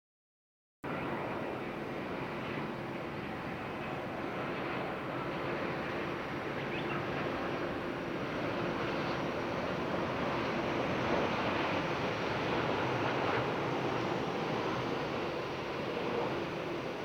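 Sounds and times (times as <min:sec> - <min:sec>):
jet airliner on approach: 0:00.8 - 0:17.0.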